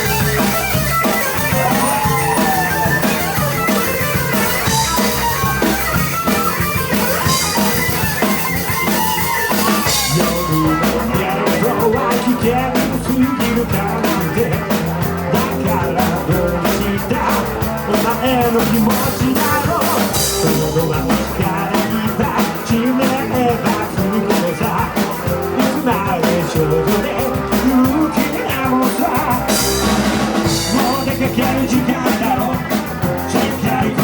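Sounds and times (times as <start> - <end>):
bass guitar: 0.0 - 34.0
drum kit beat: 0.0 - 34.0
electric guitar lead: 0.0 - 34.0.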